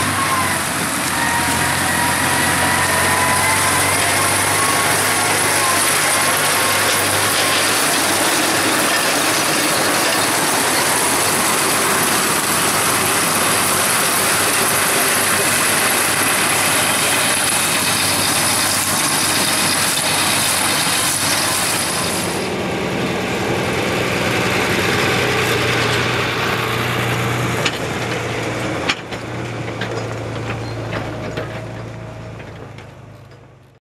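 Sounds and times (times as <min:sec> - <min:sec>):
tractor baler loud hiss: 0:00.0 - 0:28.9
tractor engine low hum: 0:00.0 - 0:33.8.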